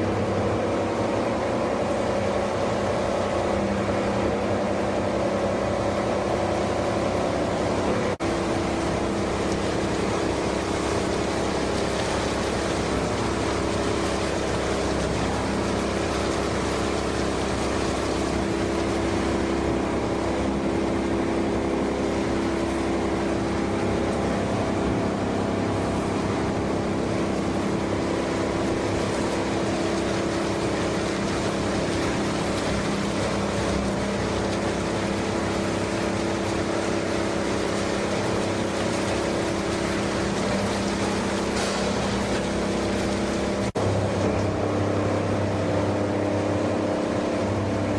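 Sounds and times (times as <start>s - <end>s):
washing machine drone: 0.0s - 47.9s.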